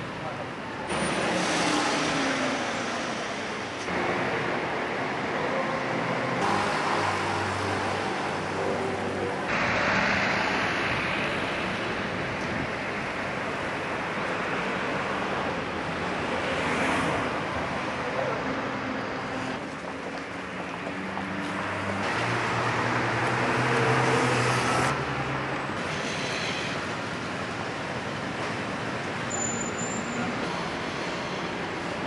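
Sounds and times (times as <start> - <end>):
car engines and tyre noise: 0.0 - 32.0.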